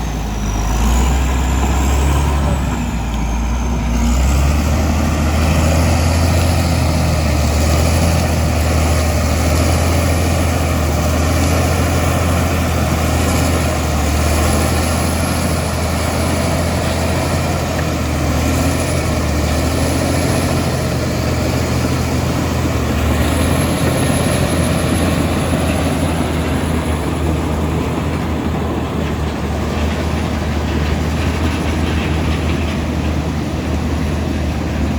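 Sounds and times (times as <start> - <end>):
bulldozer diesel engine droning: 0.0 - 34.9.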